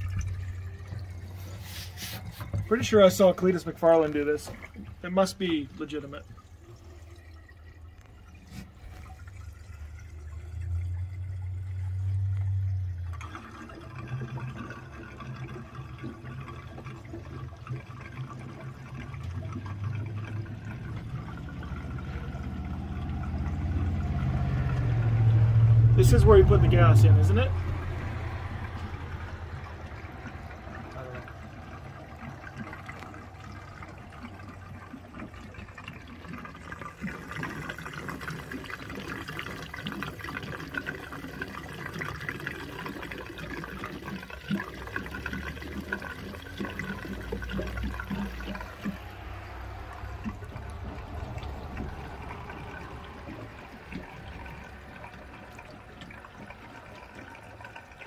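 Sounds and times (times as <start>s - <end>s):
fuel pouring from can spout: 0.0s - 58.0s.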